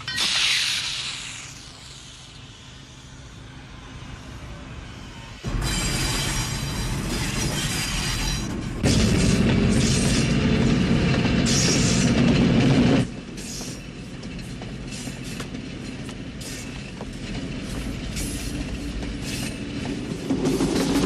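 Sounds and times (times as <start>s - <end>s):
locomotive rumble: 2.0s - 21.0s.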